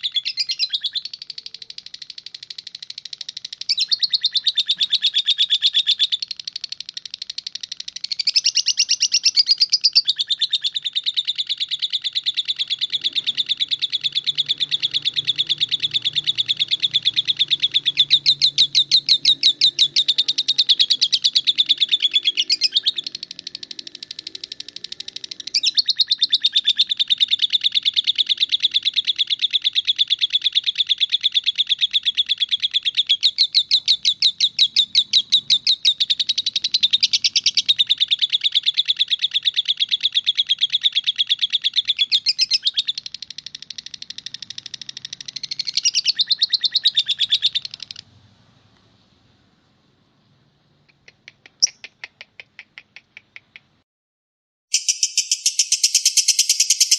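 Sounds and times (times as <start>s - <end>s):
lovebird high-pitched trill: 0.0s - 48.0s, 54.7s - 56.9s.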